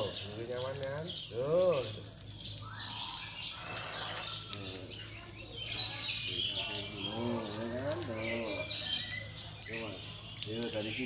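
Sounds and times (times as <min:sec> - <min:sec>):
lovebirds chirping: 0:00.0 - 0:11.0
water spraying from hose: 0:00.0 - 0:11.0.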